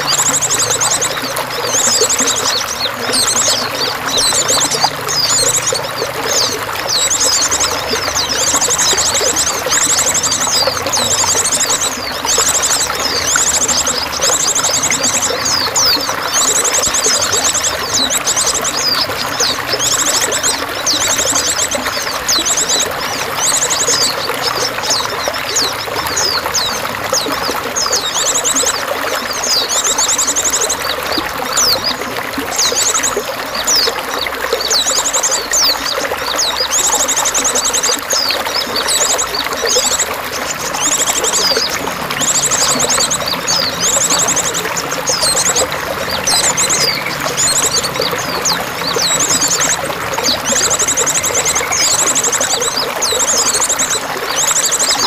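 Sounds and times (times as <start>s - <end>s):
songbirds chirping and trilling: 0.0s - 55.0s
water running and trickling: 0.0s - 55.0s.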